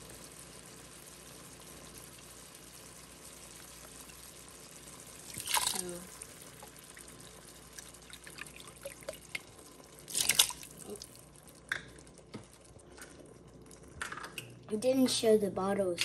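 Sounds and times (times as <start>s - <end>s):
small drips and ticks: 0.0s - 15.2s
broth splashing into pot: 0.4s - 14.6s.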